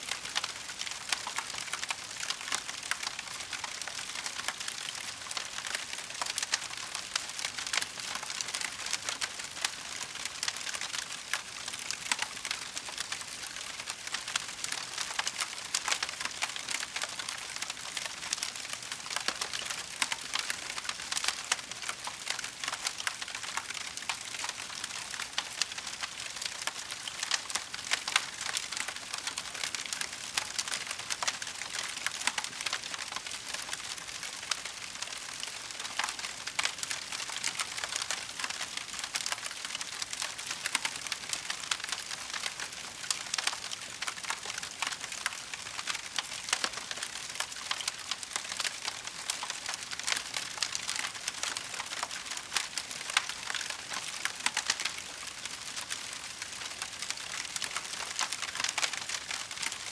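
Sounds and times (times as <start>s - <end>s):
wood fire crackling: 10.2s - 59.9s.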